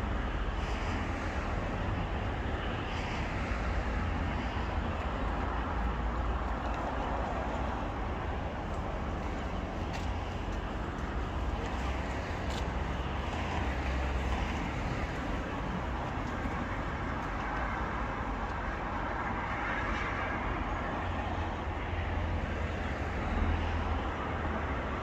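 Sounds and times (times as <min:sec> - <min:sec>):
road traffic rushing by: 0:00.0 - 0:25.0.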